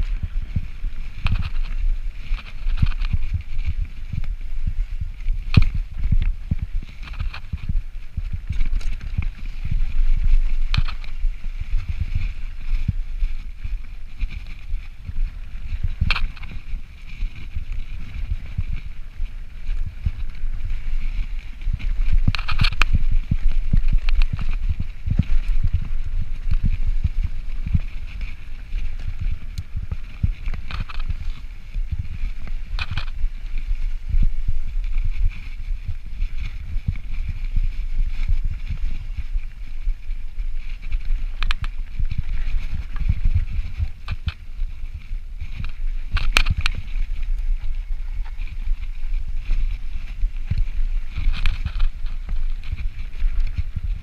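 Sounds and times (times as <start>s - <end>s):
bike clicks and rattles: 0.0s - 54.0s
bike tyres rumbling on dirt: 0.0s - 54.0s.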